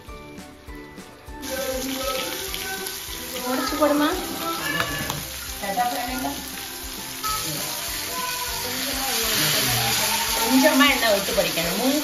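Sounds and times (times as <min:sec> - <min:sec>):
fish sizzling in oil: 0:01.4 - 0:12.0.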